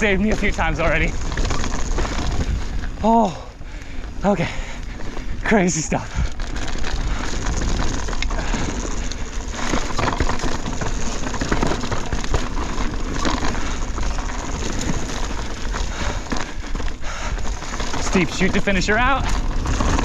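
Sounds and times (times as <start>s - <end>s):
bike chain rattling: 0.0s - 20.0s
tyres crunching over rocks: 0.0s - 20.0s
wind rumble on microphone: 0.0s - 20.0s.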